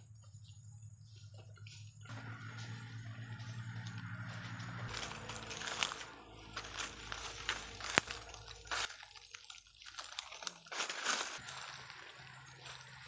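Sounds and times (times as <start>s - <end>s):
footsteps crunching dry leaves: 1.0s - 13.0s.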